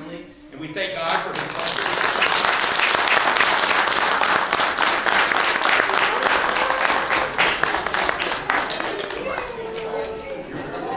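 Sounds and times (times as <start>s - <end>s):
crowd applauding: 0.8s - 10.5s.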